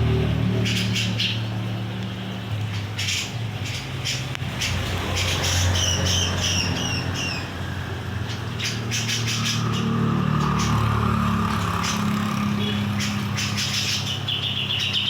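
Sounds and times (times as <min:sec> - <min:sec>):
bird chattering calls: 0:00.5 - 0:01.7, 0:02.6 - 0:15.0.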